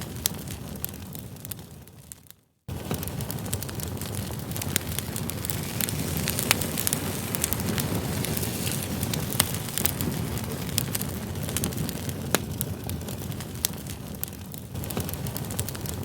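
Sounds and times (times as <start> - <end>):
campfire flames rushing: 0.0 - 16.0
firewood crackling and popping: 0.0 - 16.0.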